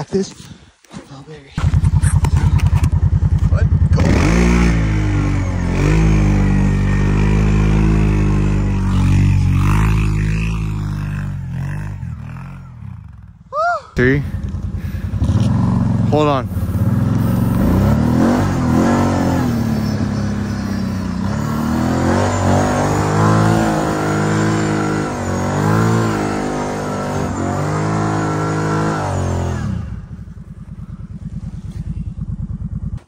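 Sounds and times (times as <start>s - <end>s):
vehicle engine revving and idling: 1.6s - 13.4s, 14.0s - 33.0s.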